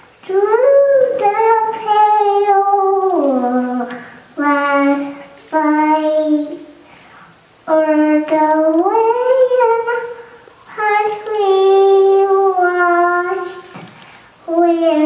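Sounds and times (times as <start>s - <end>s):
girl singing: 0.2s - 6.9s, 7.6s - 13.8s, 14.4s - 15.0s.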